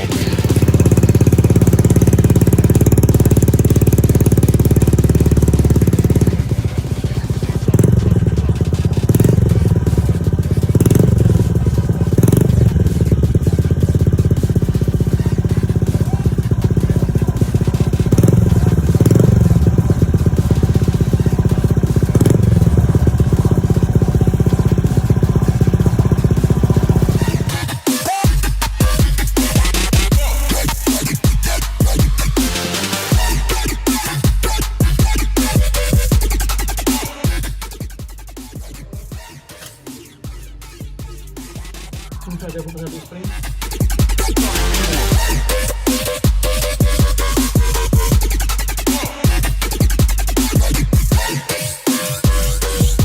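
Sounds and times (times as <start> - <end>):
scooter engine revving: 0.0 - 53.0.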